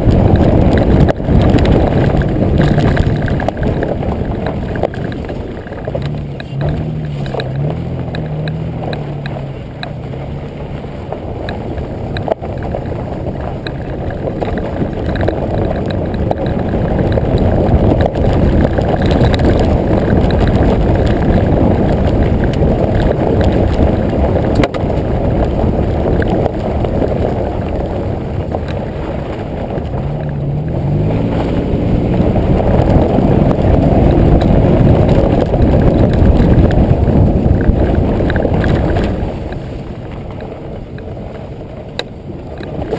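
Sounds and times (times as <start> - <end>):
car engine and exhaust: 0.0 - 42.9
wind and tyre rumble: 0.0 - 42.9.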